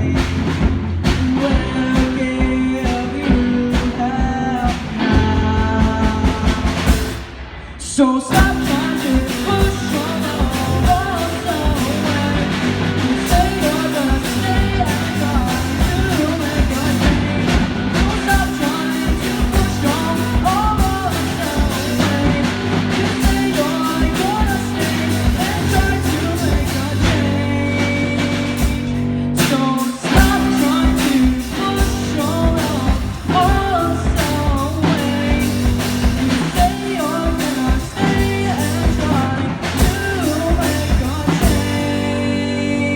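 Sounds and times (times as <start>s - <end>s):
person singing: 0.0s - 42.9s
rock band playing live: 0.0s - 42.9s.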